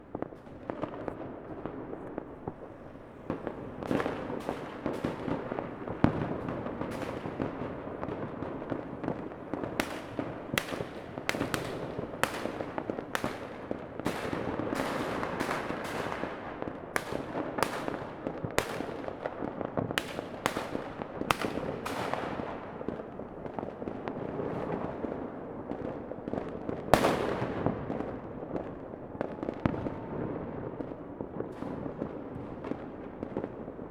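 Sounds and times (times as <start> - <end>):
fireworks bangs: 0.0 - 33.9
fireworks crackle: 0.0 - 33.9.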